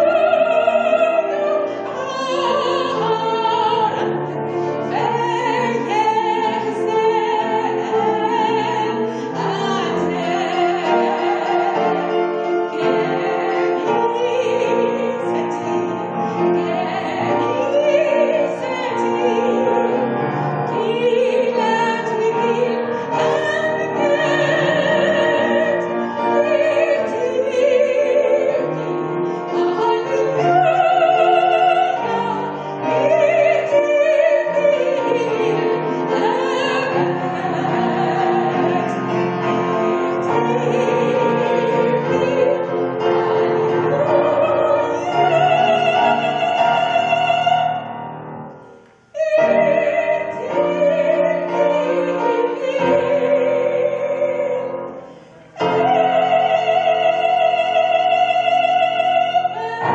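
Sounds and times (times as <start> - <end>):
woman singing with vibrato: 0.0 - 20.0, 20.7 - 47.9, 49.0 - 54.8, 55.5 - 59.9.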